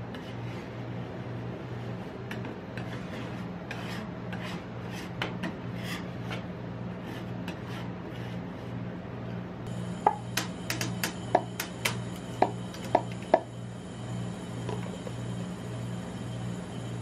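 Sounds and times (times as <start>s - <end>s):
machine low hum: 0.0s - 17.0s.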